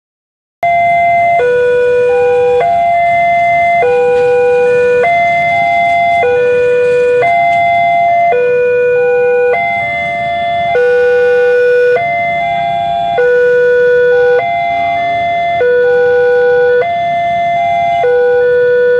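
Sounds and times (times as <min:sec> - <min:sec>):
level crossing warning tones: 0:00.6 - 0:18.9.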